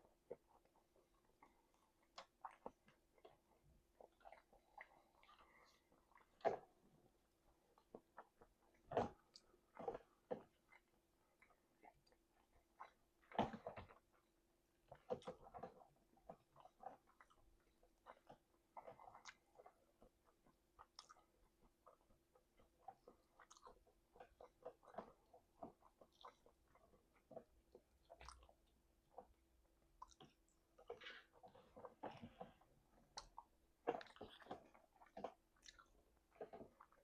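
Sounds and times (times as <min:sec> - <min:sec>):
wet chewing and lip-smacking: 0:00.0 - 0:37.0.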